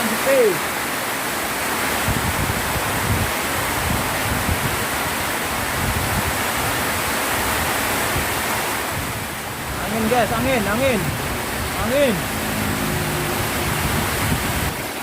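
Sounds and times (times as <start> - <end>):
heavy rain pouring: 0.0 - 15.0
wind buffeting microphone: 2.0 - 15.0.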